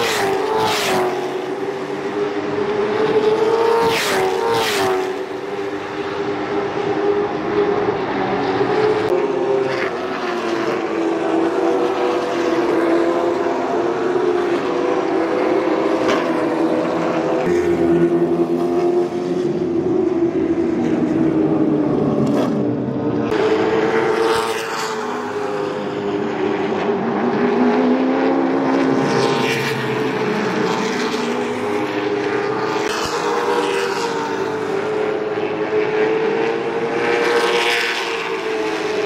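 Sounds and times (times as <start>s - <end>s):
stock car engines droning: 0.0s - 39.0s.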